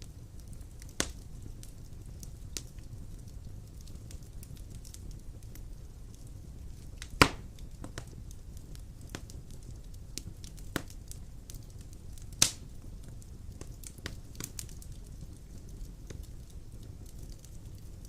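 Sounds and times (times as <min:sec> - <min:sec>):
fire crackles: 0:00.0 - 0:18.0
fire rumbling: 0:00.0 - 0:18.0
loud sharp pops of fire: 0:00.0 - 0:18.0.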